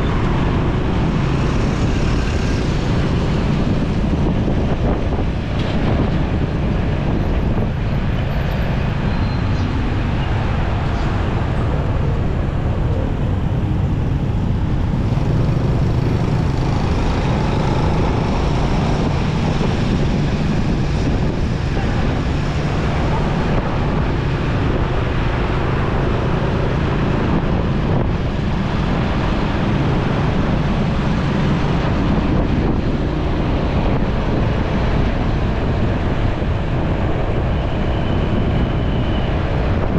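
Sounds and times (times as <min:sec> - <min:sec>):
road traffic rumble: 0:00.0 - 0:39.9
wind rushing over microphone: 0:00.0 - 0:39.9.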